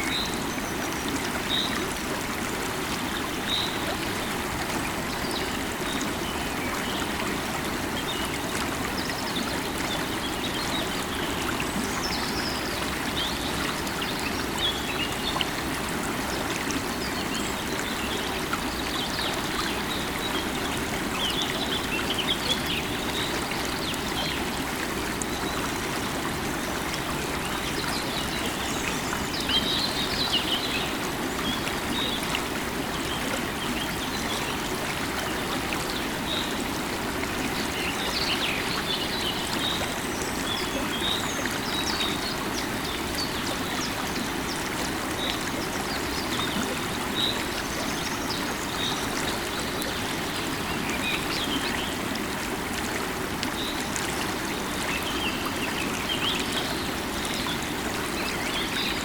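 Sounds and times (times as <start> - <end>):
river water running over stones: 0.0 - 59.0.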